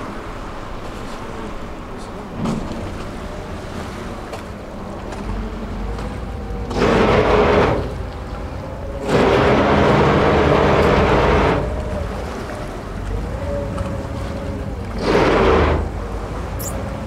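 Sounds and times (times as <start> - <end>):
ferry engine rumbling: 0.0 - 17.0
water rushing along boat: 0.0 - 17.0
wind: 0.0 - 17.0.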